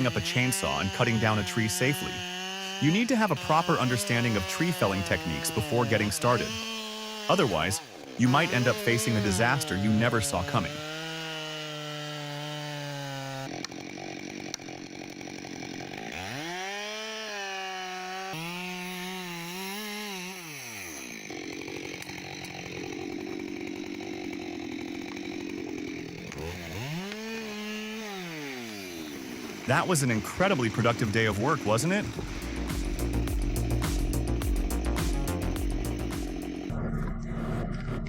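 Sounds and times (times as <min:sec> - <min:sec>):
chainsaw cutting wood: 0:00.0 - 0:36.8.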